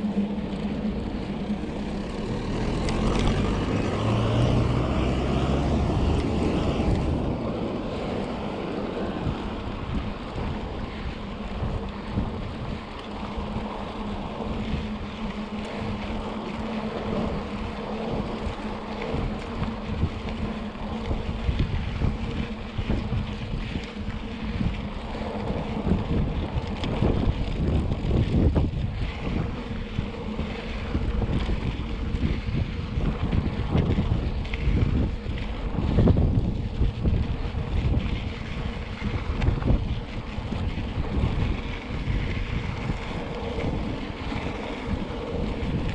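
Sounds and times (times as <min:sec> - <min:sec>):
mountain bike rumbling and rattling: 0:00.0 - 0:45.9
wind buffeting microphone: 0:00.0 - 0:45.9.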